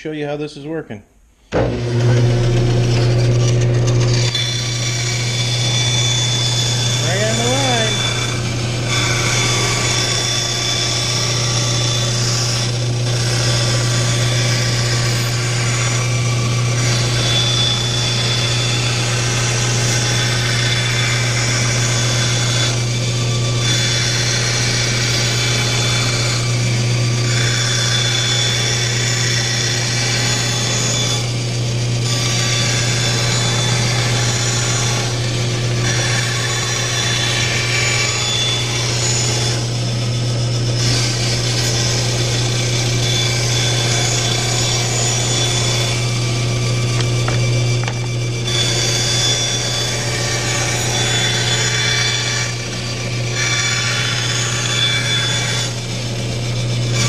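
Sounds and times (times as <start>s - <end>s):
bandsaw motor hum: 1.5s - 57.0s
saw blade cutting plywood: 1.5s - 57.0s.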